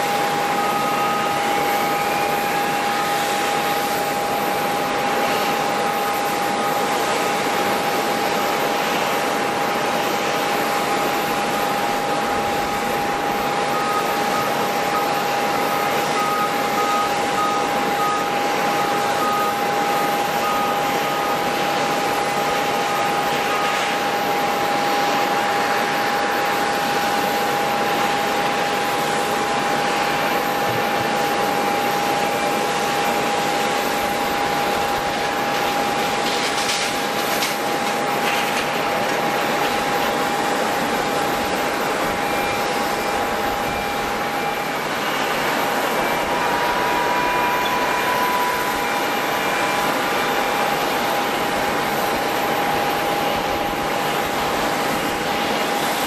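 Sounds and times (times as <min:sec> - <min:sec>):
jet engines hissing and whining: 0:00.0 - 0:56.0.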